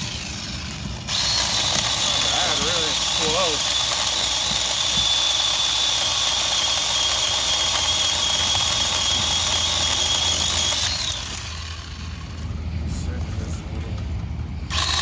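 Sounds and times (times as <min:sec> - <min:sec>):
cordless chainsaw whining: 0:00.0 - 0:12.5, 0:14.7 - 0:15.0.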